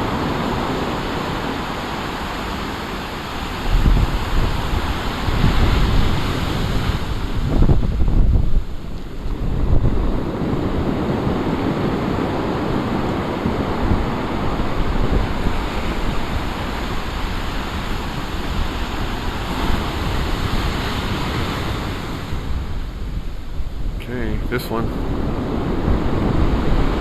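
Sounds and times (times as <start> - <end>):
waves breaking on shore: 0.0 - 27.0
wind rumbling on microphone: 0.0 - 27.0.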